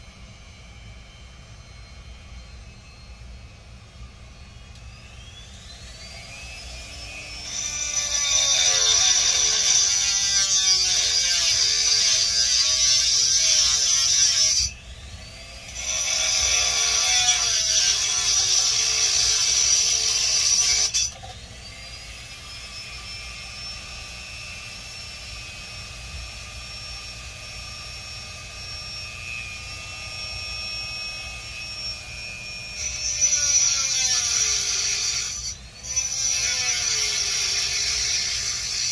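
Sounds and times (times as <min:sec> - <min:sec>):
high-speed electric tool whining: 0:00.0 - 0:38.9.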